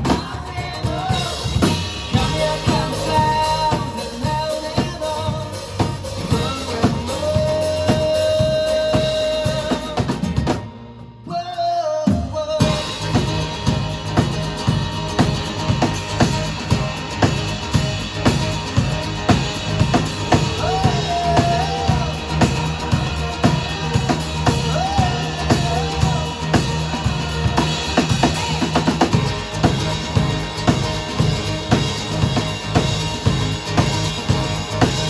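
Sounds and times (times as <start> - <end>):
drum kit beat: 0.0 - 11.2, 12.1 - 35.0
pulsing bass line: 0.0 - 11.2, 12.6 - 35.0.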